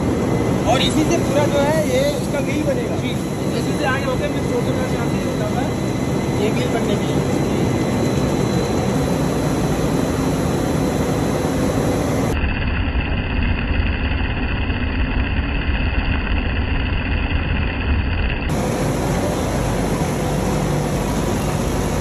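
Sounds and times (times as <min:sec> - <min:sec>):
deep machine rumble: 0:00.0 - 0:22.0
factory machinery running: 0:00.0 - 0:22.0.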